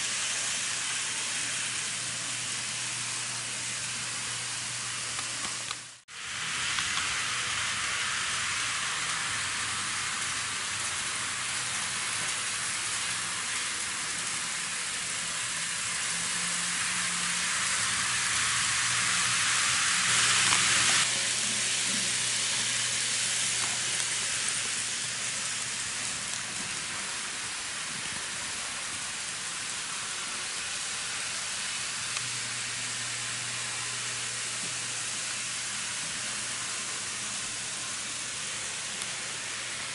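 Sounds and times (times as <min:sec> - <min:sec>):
model train wheels whirring: 0:00.0 - 0:39.9.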